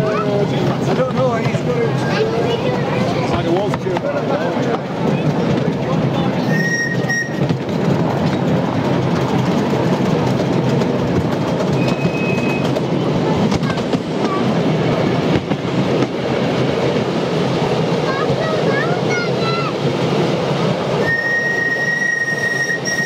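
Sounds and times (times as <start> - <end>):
rumble of carriages: 0.0 - 23.0
train wheels clattering on rails: 0.0 - 23.0.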